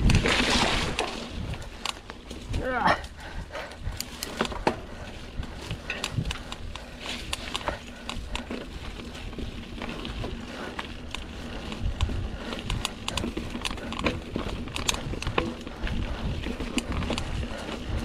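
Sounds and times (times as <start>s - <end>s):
bike drivetrain clicks and rattles: 0.0s - 18.0s
tyre and wind rumble: 0.0s - 18.0s.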